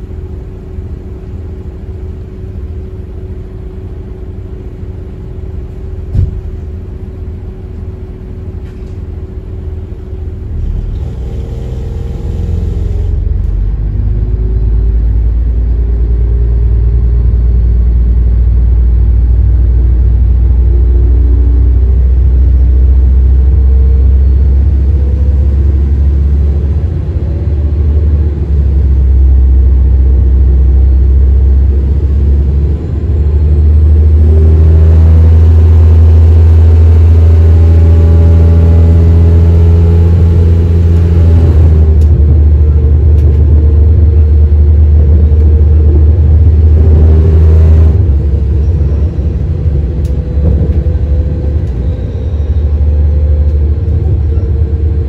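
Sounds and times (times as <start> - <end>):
train diesel engines droning: 0.0 - 55.0.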